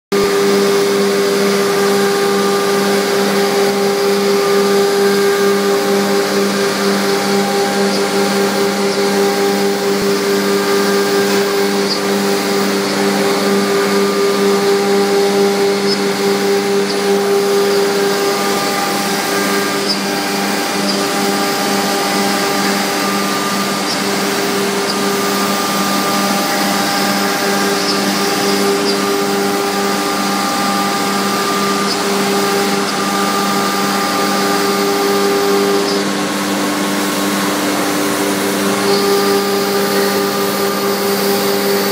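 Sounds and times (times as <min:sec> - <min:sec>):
cnc router spindle humming: 0:00.1 - 0:41.9.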